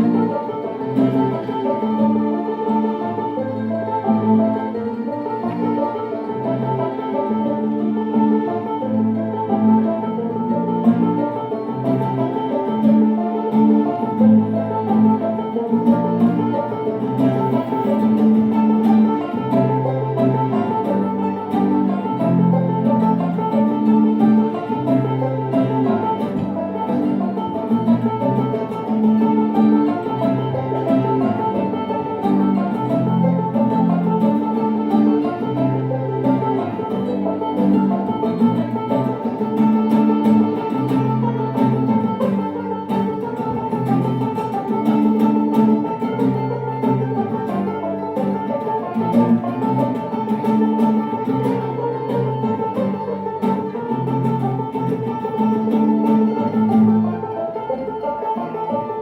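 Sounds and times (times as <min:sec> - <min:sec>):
acoustic guitar: 0:00.0 - 0:59.0
plucked banjo: 0:00.0 - 0:59.0.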